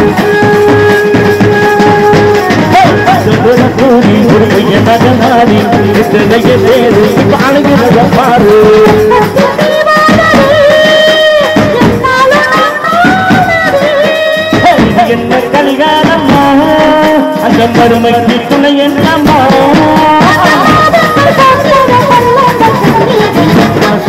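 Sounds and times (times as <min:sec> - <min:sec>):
song melody: 0:00.0 - 0:24.0.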